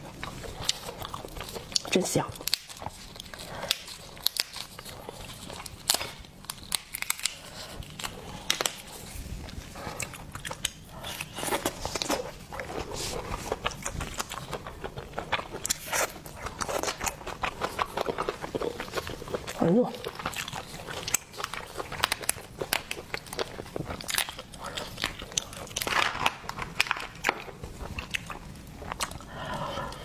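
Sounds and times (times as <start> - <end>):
chewing: 0.0 - 30.0
shellfish shell crunching: 0.2 - 9.1, 10.1 - 30.0.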